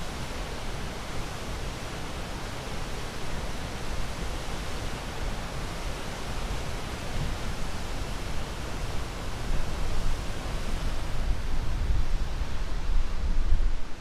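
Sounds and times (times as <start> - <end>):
ocean waves with low rumble: 0.0 - 14.0.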